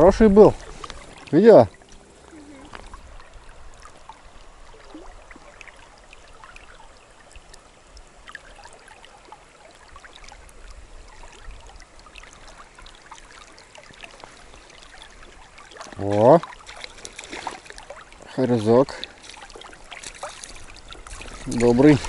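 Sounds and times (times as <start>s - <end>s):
river water lapping: 0.0s - 22.0s
small splashes and drips: 0.0s - 22.0s.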